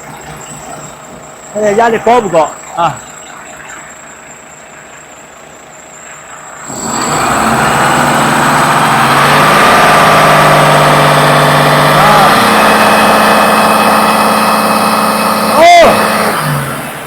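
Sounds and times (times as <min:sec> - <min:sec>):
diesel engine idling and revving: 0:00.0 - 0:17.0.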